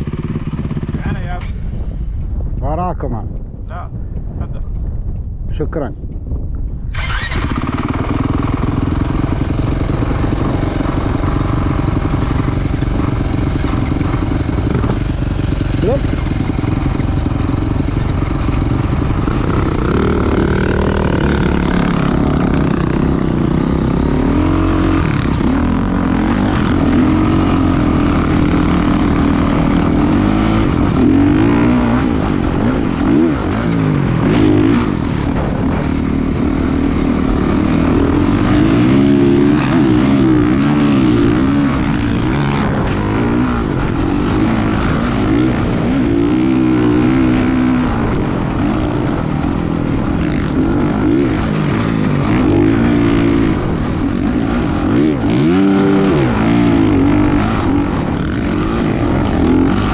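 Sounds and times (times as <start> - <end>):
dirt bike engine revving: 7.0 - 59.9.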